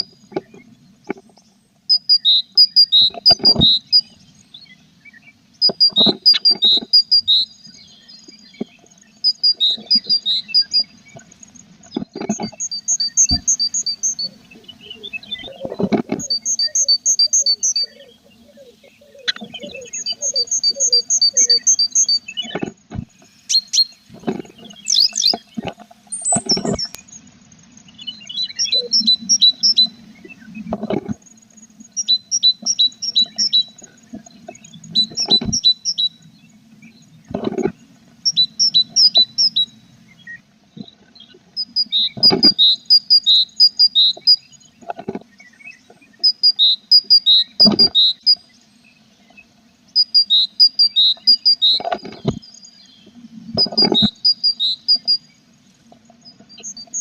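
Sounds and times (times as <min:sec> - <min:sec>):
nestlings begging chirps: 0:01.9 - 0:37.4, 0:38.2 - 0:44.8, 0:45.5 - 0:55.6.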